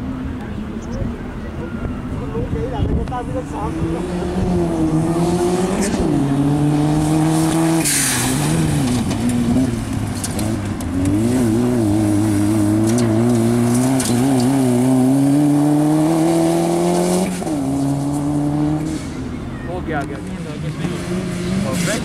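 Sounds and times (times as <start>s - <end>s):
car engine revving: 3.1s - 22.0s.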